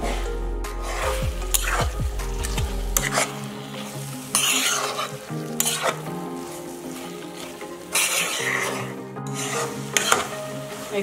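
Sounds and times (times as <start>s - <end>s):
spatula scraping a pan: 0.0s - 11.0s
light sizzle: 0.8s - 11.0s.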